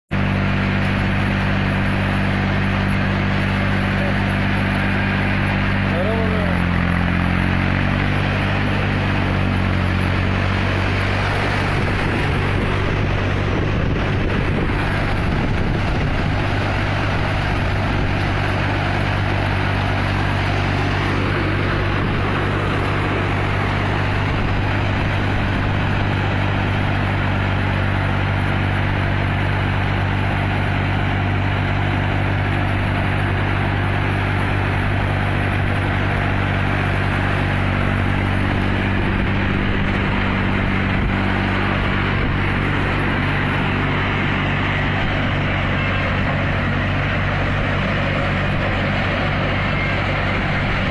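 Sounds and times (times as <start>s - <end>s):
tractor diesel engine running: 0.0s - 50.9s
harvester machinery rushing: 0.1s - 50.9s.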